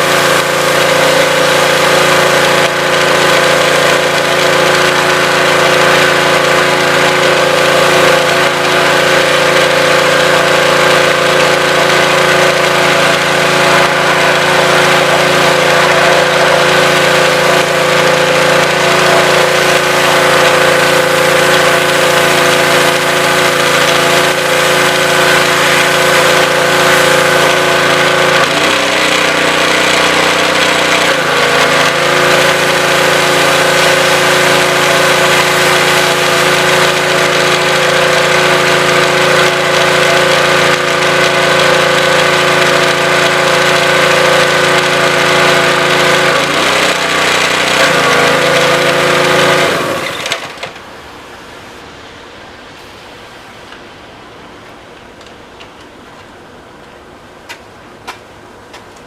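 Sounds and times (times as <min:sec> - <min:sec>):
pressure washer engine running: 0:00.0 - 0:51.5.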